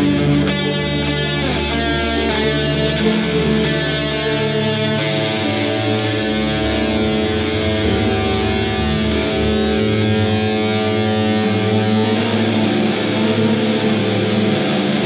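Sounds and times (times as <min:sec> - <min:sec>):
electric guitar sustained chords: 0:00.0 - 0:15.0.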